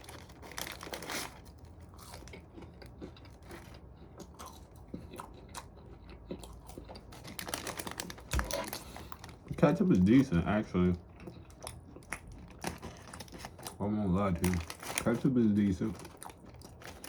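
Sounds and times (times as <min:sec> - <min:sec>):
person chewing crispy fries: 0:00.0 - 0:17.0.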